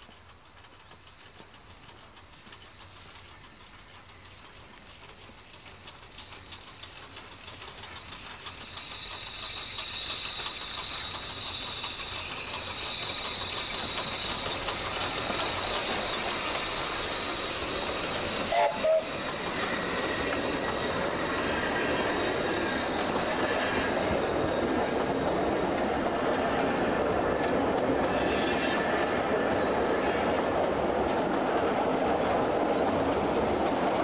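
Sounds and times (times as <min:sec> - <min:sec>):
steam hissing: 0:00.0 - 0:34.0
train wheels clattering: 0:00.0 - 0:34.0.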